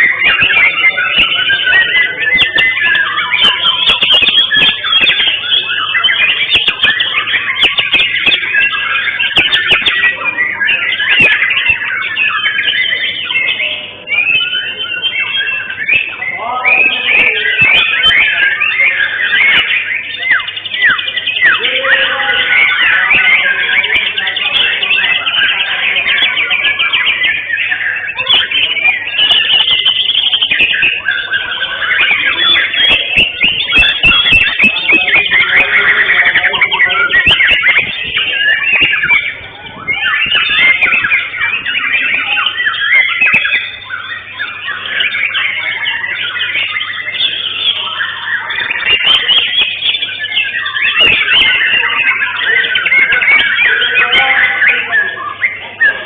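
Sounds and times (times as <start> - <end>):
songbirds whistling and trilling: 0.0 - 56.0.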